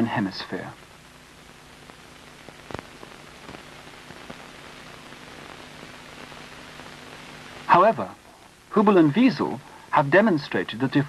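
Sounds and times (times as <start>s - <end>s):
analog soundtrack hiss: 0.0s - 11.0s
faint low hum: 0.0s - 11.0s.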